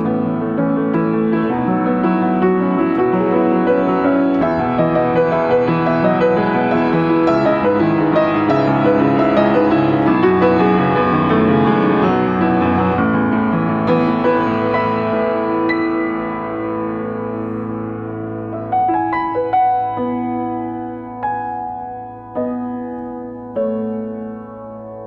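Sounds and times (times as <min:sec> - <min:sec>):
upright piano playing: 0:00.0 - 0:25.0.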